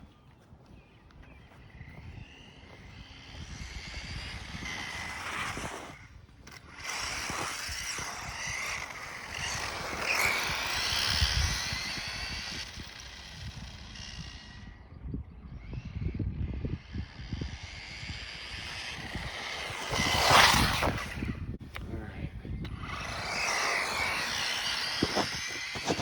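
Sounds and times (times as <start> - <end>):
rc car motor whining: 1.2 - 26.0.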